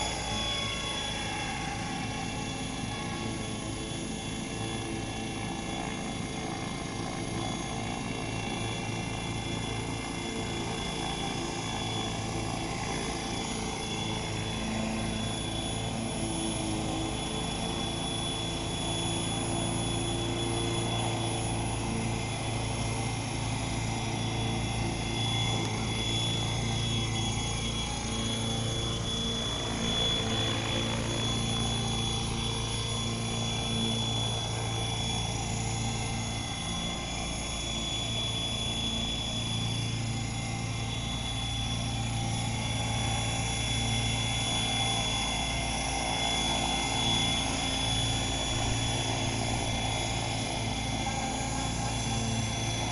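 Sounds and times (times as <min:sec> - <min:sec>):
model helicopter motor whine: 0:00.0 - 0:52.9.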